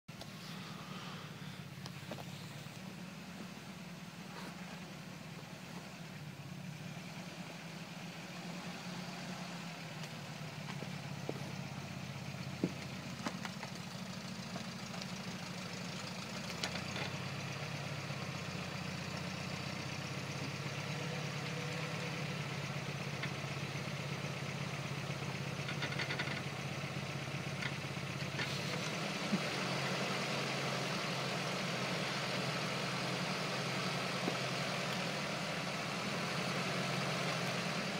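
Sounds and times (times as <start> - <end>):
pickup engine running at low revs: 0.1 - 37.9.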